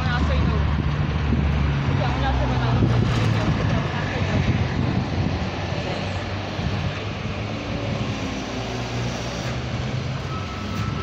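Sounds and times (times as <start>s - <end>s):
car engines passing: 0.0s - 11.0s.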